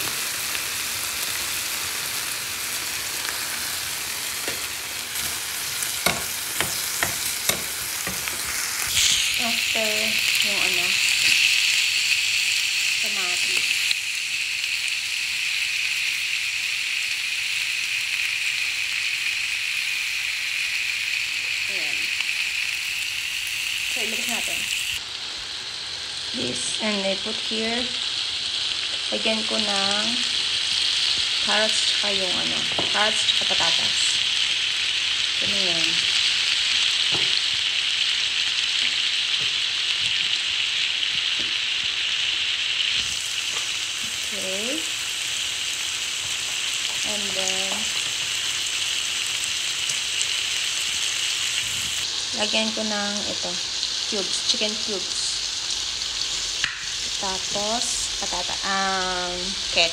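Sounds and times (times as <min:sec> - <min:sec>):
food sizzling in frying pan: 0:00.0 - 0:59.9.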